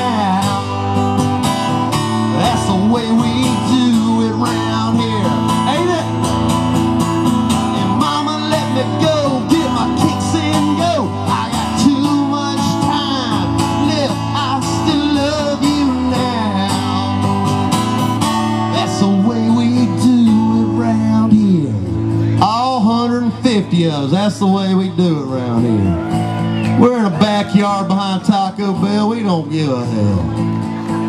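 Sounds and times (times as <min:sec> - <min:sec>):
man singing: 0:00.0 - 0:01.1, 0:02.2 - 0:06.4, 0:07.6 - 0:17.7, 0:18.5 - 0:26.0, 0:26.8 - 0:30.3
acoustic guitar strummed: 0:00.0 - 0:31.0.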